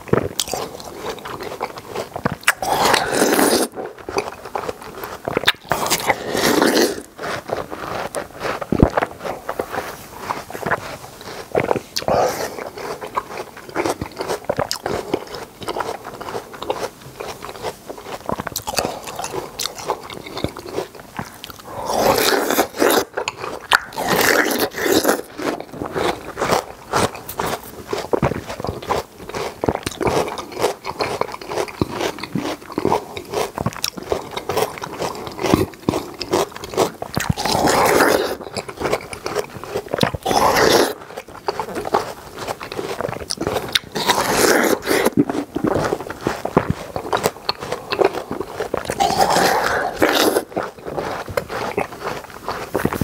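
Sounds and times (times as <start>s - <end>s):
crunching: 0.0s - 53.0s
wet crisp bites and chewing: 0.1s - 53.0s.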